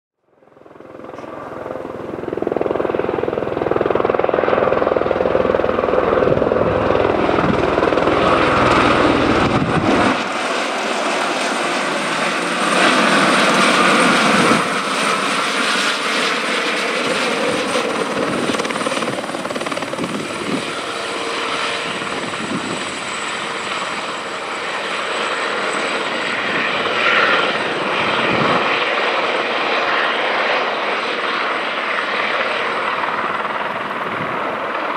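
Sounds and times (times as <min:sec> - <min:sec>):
helicopter turbine and rotor noise: 0:00.2 - 0:34.9.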